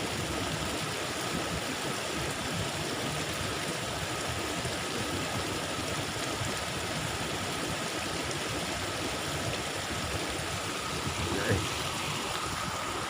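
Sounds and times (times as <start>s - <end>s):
floodwater rushing in a stream: 0.0s - 13.0s.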